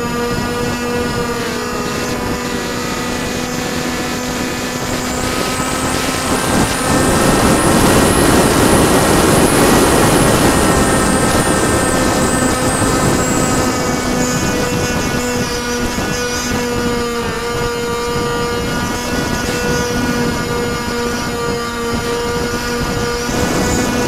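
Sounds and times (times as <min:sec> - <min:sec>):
model plane motor whine: 0:00.0 - 0:24.0
wind rushing: 0:00.3 - 0:20.5.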